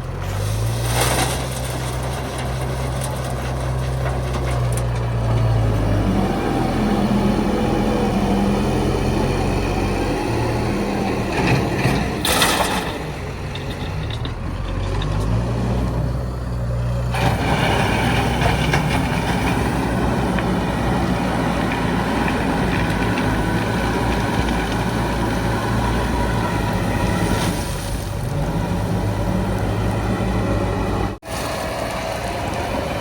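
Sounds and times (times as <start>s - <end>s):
heavy diesel engines running: 0.0s - 33.0s
rough full engine noise: 0.0s - 33.0s.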